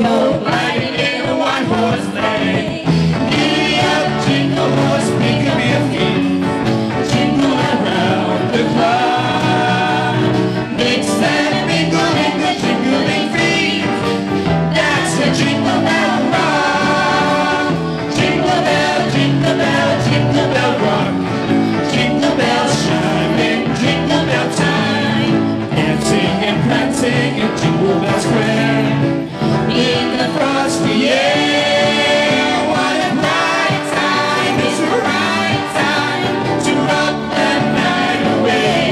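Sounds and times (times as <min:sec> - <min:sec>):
drums: 0:00.0 - 0:38.9
electric guitar: 0:00.0 - 0:38.9
keyboard: 0:00.0 - 0:38.9
people singing together: 0:00.0 - 0:38.9.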